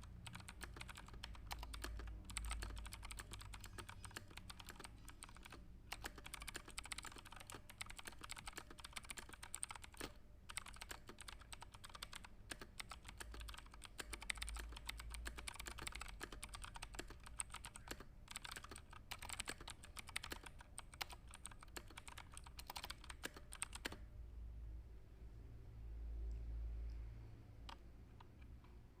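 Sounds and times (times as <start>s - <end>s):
fast typing on keyboard: 0.0s - 24.0s.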